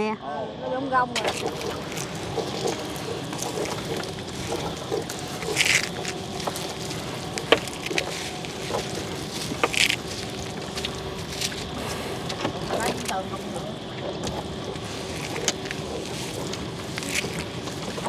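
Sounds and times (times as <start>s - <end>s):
boat motor running: 0.0s - 18.0s
knocks and clicks of net hauling: 1.2s - 18.0s.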